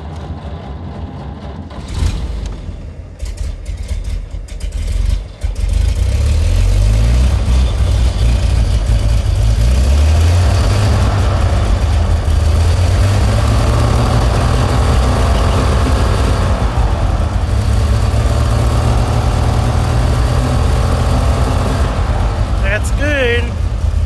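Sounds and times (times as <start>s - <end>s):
car engine idling: 2.8s - 24.0s.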